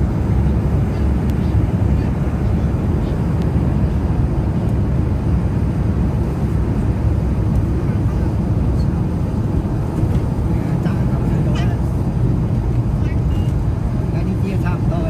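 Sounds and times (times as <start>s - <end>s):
road and engine rumble in car: 0.0s - 15.0s.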